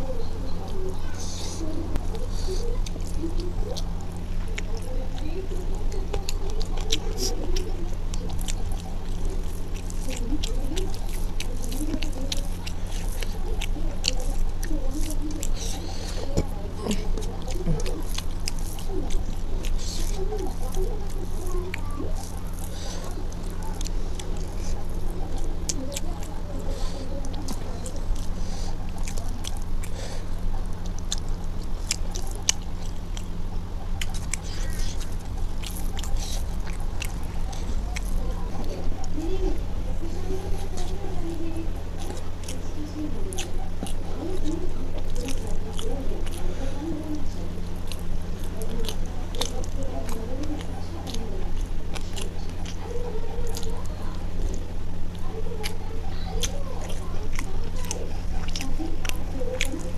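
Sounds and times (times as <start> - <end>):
fingers squishing rice on steel plate: 0.0 - 59.9
steady low hum: 0.0 - 59.9
wet chewing and smacking: 0.0 - 59.9.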